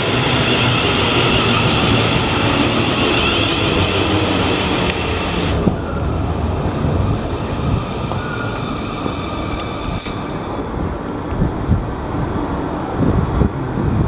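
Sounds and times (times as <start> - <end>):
faint train whine: 0.0 - 13.7
train rumbling: 0.0 - 14.0.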